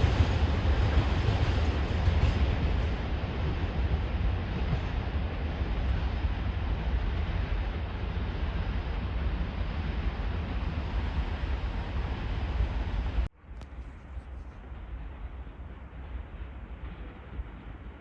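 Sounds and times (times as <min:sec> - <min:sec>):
freight train rolling: 0:00.0 - 0:18.0.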